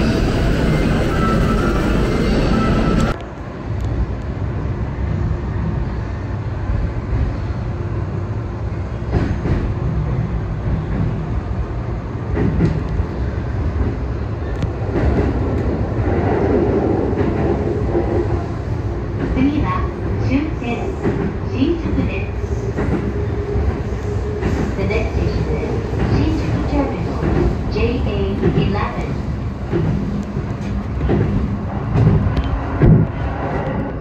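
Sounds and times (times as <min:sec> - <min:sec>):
train at platform: 0:00.0 - 0:34.0
train interior rumble: 0:00.0 - 0:34.0.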